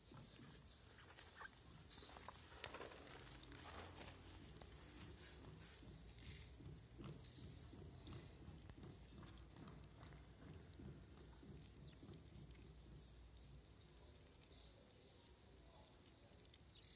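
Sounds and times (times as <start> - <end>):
kittens chewing dry kibble: 0.0 - 16.9.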